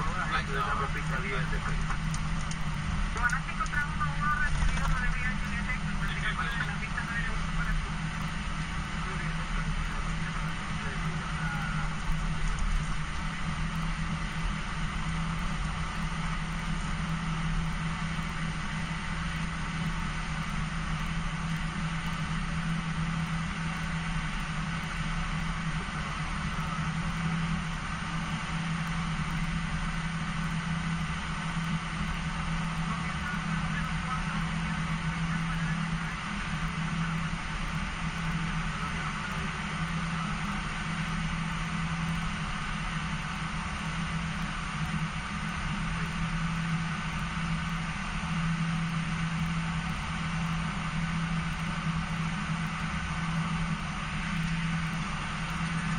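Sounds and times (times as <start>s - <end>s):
jet engines idling: 0.0s - 55.9s.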